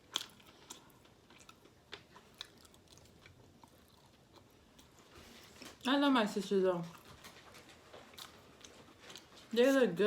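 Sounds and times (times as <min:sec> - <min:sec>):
faint chewing with mouth clicks: 0:00.0 - 0:06.0, 0:06.7 - 0:09.7.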